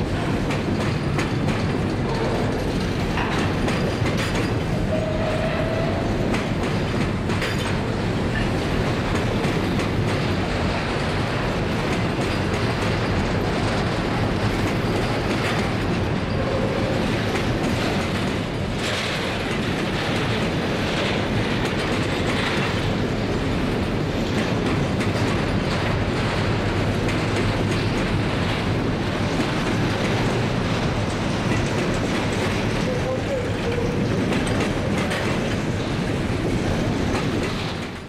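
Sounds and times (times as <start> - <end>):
train wheels rumbling on rails: 0.0 - 38.0
wheels clacking over rail joints: 0.0 - 38.0.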